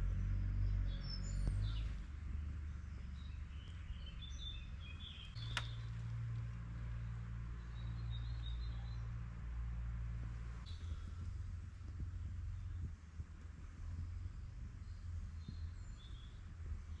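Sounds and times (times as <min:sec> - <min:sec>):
small birds chirping: 0:00.0 - 0:09.5, 0:10.2 - 0:17.0
steady low rumble: 0:00.0 - 0:17.0.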